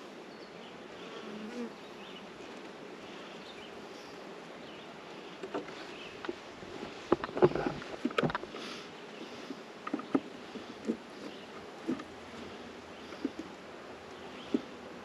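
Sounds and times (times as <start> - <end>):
honeybees buzzing: 0.0 - 15.0
bee humming past: 0.6 - 15.0.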